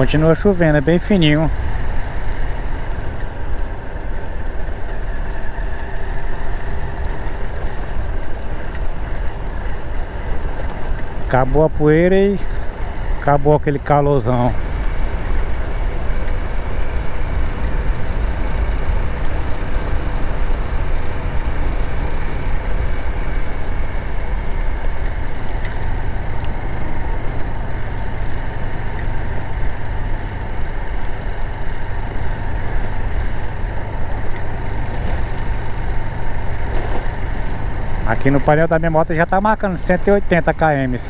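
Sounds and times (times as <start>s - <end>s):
motorcycle engine drone: 0.0s - 41.0s.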